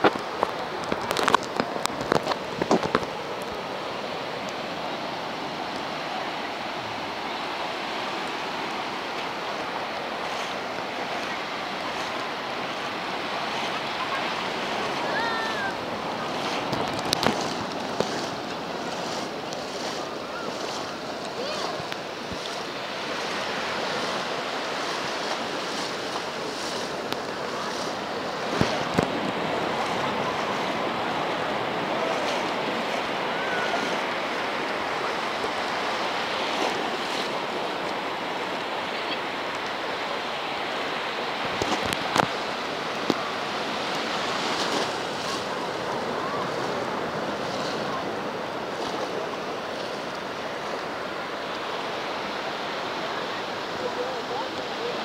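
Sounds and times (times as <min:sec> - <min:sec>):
surf washing on beach: 0:00.0 - 0:55.0.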